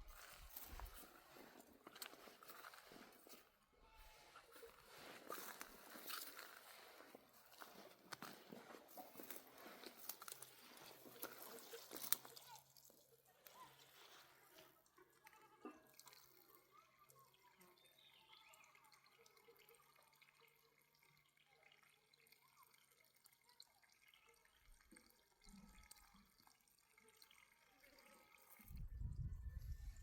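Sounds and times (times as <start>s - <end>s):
faint dripping water: 0.0s - 30.0s.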